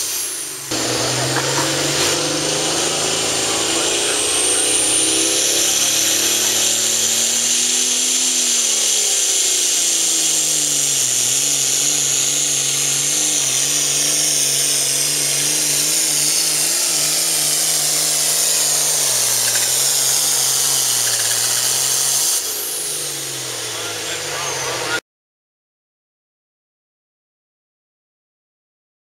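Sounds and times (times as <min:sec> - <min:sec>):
diesel tractor engine under load: 0:00.0 - 0:25.0.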